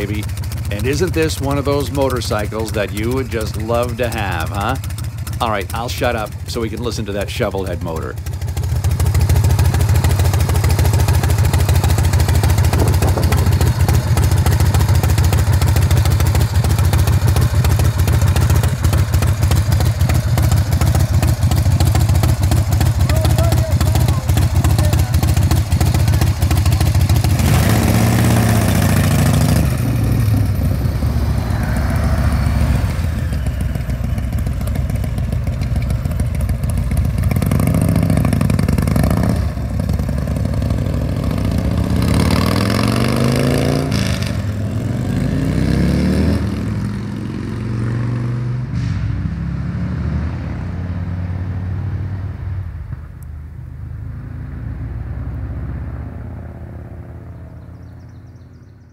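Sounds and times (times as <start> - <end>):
motorcycle engine revving: 0.0 - 53.2.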